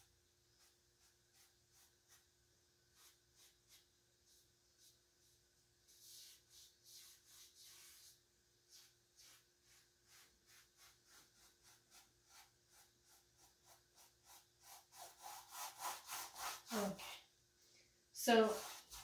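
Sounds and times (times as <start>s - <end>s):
paintbrush rubbing on canvas: 0.5s - 2.3s, 2.9s - 17.2s, 18.2s - 19.0s.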